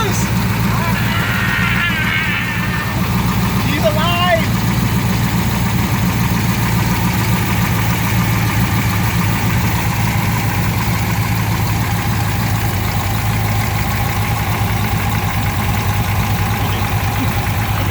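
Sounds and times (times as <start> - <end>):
engine idling: 0.0 - 17.9.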